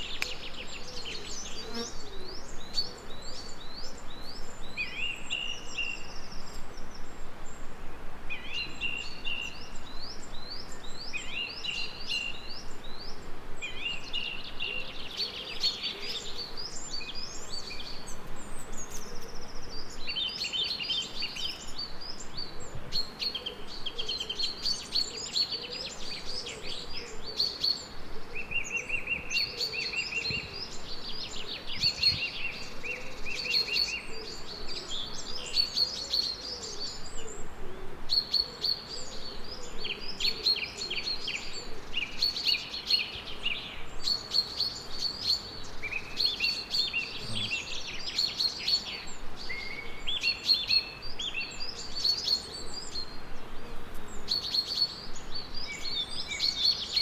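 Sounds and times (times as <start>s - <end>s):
faint steady hiss: 0.0s - 57.0s
songbirds chirping and trilling: 0.0s - 57.0s.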